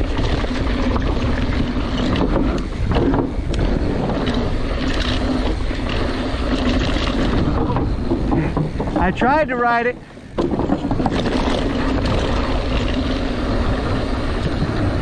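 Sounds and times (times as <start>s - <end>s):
bike rattling: 0.0s - 15.0s
bike tyres rolling on rocky dirt: 0.0s - 15.0s
wind on microphone: 0.0s - 15.0s.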